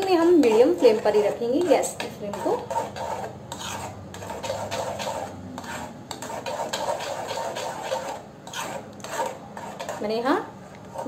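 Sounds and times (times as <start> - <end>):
metal spoon scraping metal pan: 0.0 - 11.0.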